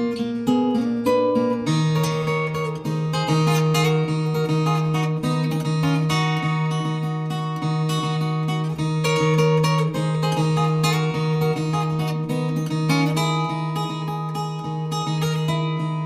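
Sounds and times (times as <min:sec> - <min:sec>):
fingerstyle guitar melody: 0:00.0 - 0:16.0.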